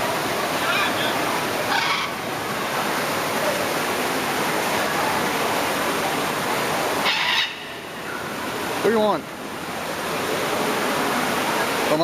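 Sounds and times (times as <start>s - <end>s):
falling water: 0.0s - 12.0s.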